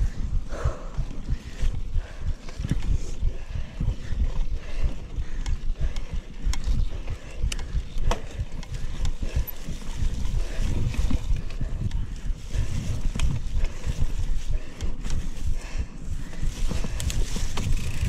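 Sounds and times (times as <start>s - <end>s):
bike rattling and clicking: 0.0s - 18.0s
bike tyres rumbling over bumps: 0.0s - 18.0s.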